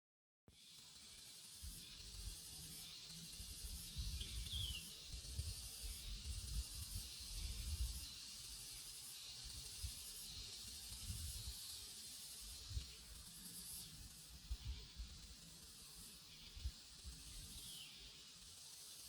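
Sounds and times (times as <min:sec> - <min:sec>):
insect chorus buzzing: 0:00.6 - 0:19.0.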